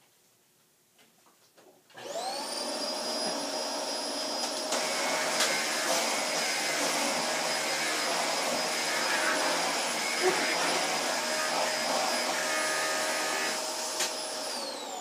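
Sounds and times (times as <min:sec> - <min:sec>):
upright vacuum cleaner running: 0:02.0 - 0:15.0.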